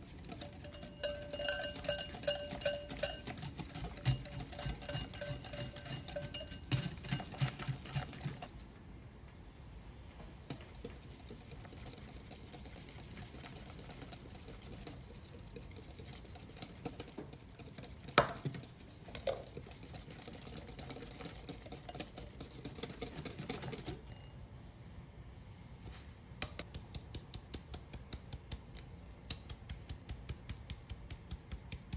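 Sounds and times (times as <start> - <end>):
hand whisk beating batter in glass bowl: 0.0 - 8.6, 10.4 - 24.2, 26.4 - 31.9.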